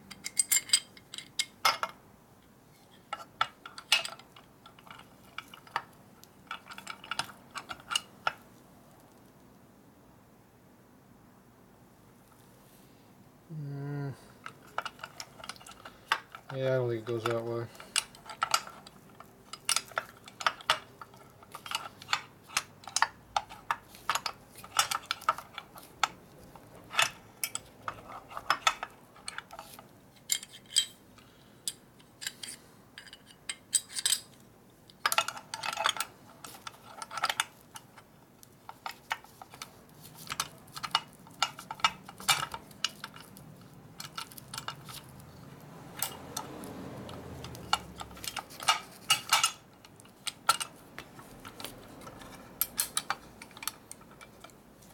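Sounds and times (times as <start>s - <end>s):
metal parts clinking on metal cover: 0.1s - 2.0s, 3.1s - 5.9s, 6.5s - 8.4s, 14.4s - 31.0s, 31.7s - 34.4s, 35.0s - 54.9s.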